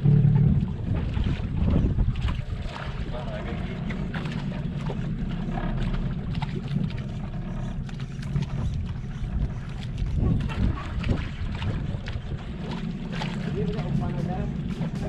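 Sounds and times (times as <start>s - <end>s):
boat engine rumble: 0.0s - 15.0s
wind on microphone: 0.0s - 15.0s.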